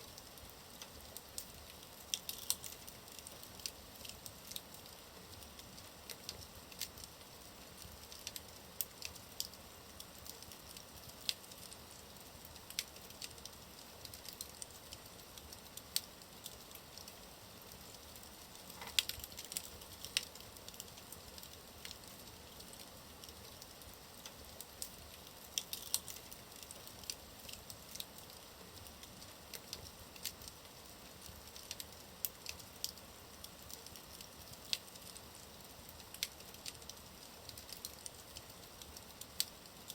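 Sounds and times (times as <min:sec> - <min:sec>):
low hiss: 0:00.0 - 0:39.9
wood fire crackling: 0:00.0 - 0:39.9.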